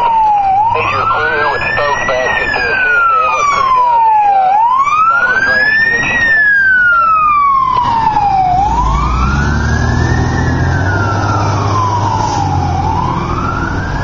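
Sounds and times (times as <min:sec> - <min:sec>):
fire truck siren wailing: 0:00.0 - 0:14.0
truck engine rumbling: 0:00.0 - 0:14.0.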